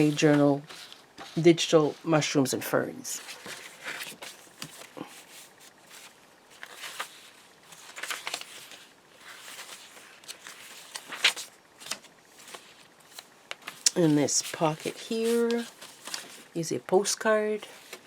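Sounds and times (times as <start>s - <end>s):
paper rustling and crinkling: 0.0s - 1.5s, 3.1s - 16.6s, 17.6s - 18.0s.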